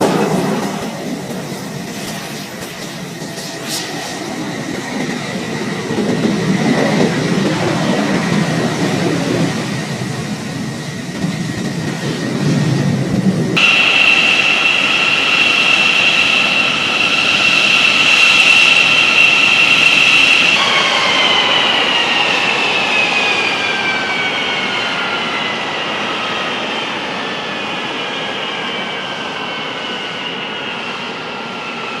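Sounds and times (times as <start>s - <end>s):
jet engine whine spooling down: 0.0s - 32.0s.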